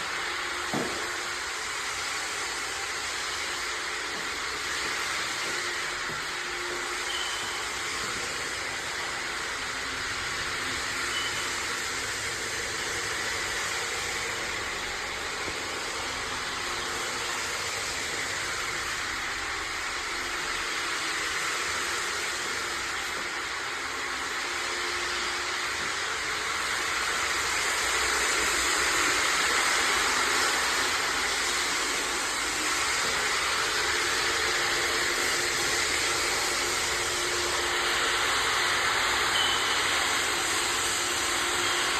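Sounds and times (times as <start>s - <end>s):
machine running with hiss: 0.0s - 41.9s.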